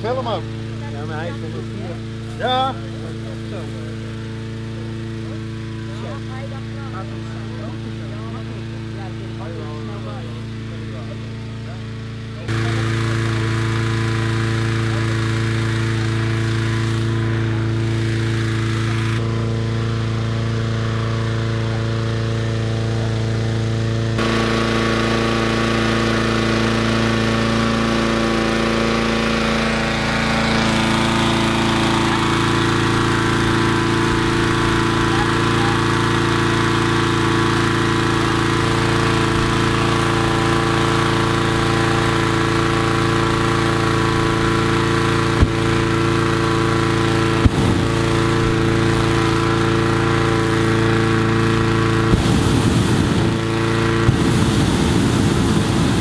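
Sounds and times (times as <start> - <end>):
inflator fan engine running: 0.0 - 56.0.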